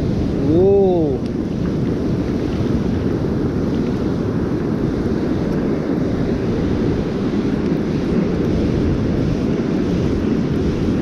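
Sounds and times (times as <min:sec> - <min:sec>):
ocean surf rumble: 0:00.0 - 0:11.0
wind buffeting microphone: 0:00.0 - 0:11.0.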